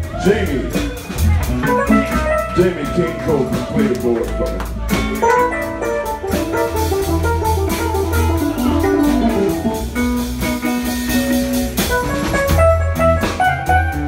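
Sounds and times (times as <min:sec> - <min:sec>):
drum kit: 0:00.0 - 0:14.0
electric bass: 0:00.0 - 0:14.0
funk band playing: 0:00.0 - 0:14.0
lead line of quick notes: 0:00.0 - 0:14.0.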